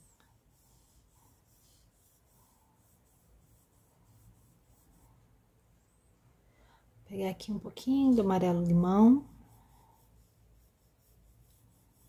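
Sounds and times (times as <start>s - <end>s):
paintbrush scratching on cloth: 0.0s - 5.9s, 7.9s - 12.0s.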